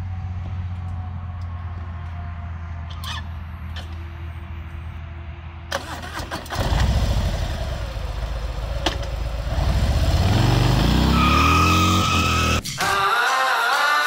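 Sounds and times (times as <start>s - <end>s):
motorcycle engine idling and revving: 0.0s - 12.6s.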